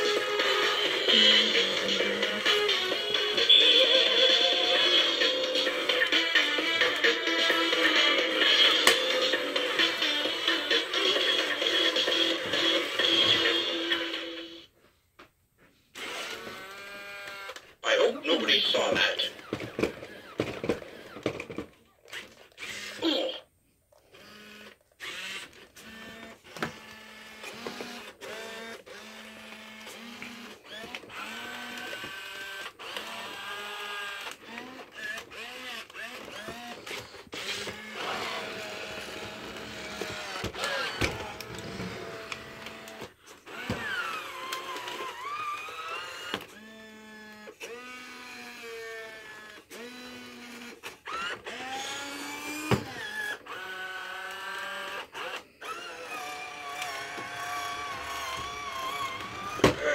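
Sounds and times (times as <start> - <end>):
toy robot motors whining: 0.0 - 14.7, 15.9 - 17.6, 18.4 - 23.4, 24.0 - 59.9.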